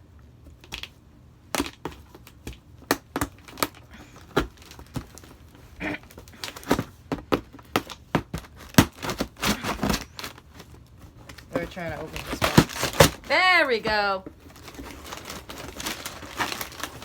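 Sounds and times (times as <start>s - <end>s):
cardboard box cracking open: 1.6s - 13.5s, 14.4s - 17.0s
cardboard tearing: 3.3s - 17.0s.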